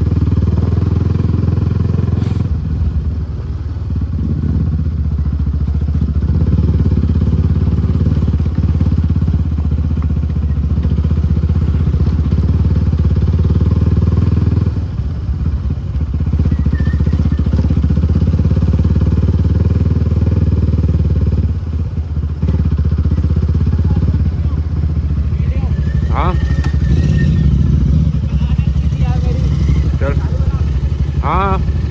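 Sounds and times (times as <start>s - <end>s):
motorcycle engine riding: 0.0s - 31.9s.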